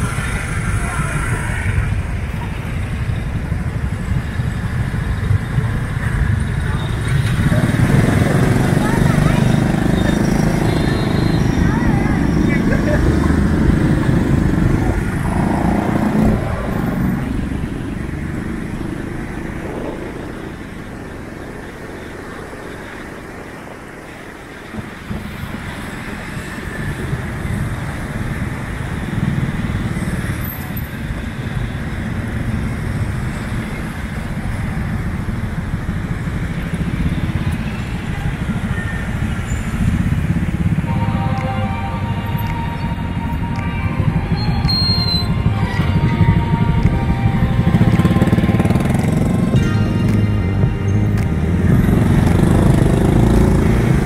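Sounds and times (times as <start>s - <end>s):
motorbike engines and road noise: 0.0s - 54.0s.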